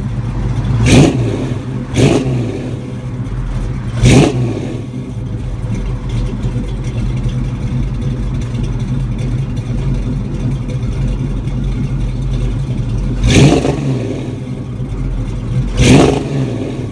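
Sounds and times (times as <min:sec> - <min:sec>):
car exhaust idling: 0:00.0 - 0:16.9.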